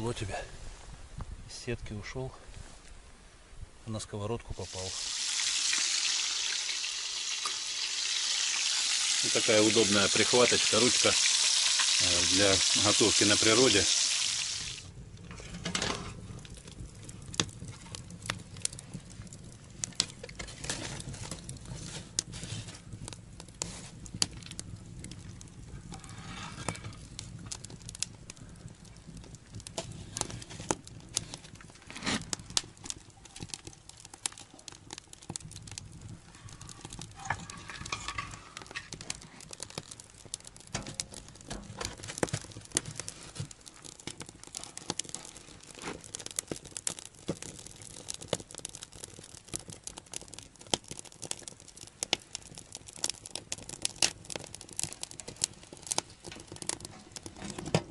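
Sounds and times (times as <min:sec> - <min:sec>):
wood fire crackling and popping: 0:04.3 - 0:57.9.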